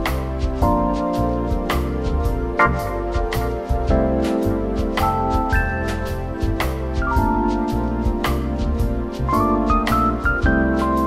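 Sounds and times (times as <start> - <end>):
instrumental keyboard music: 0.0 - 11.0.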